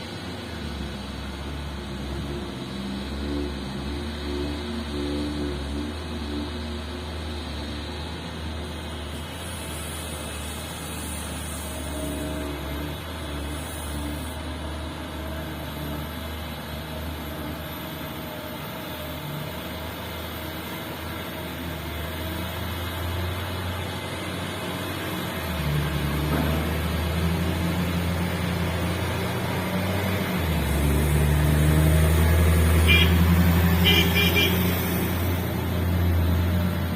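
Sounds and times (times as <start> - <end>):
heavy diesel engine drone: 0.0 - 36.9.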